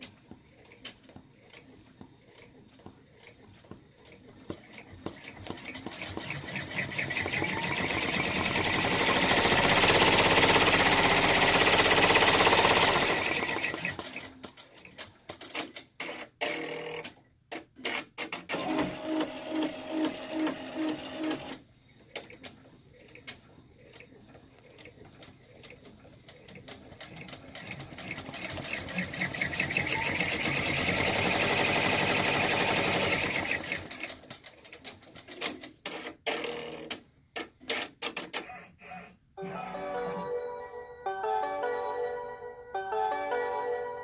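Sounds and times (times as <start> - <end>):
embroidery machine stitching: 0.0 - 39.1
machine clicks and whirs: 0.0 - 39.2.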